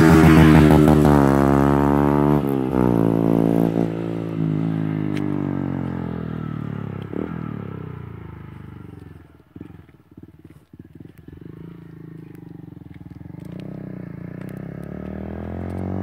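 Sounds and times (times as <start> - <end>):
motorcycle pulling away: 0.0 - 16.0.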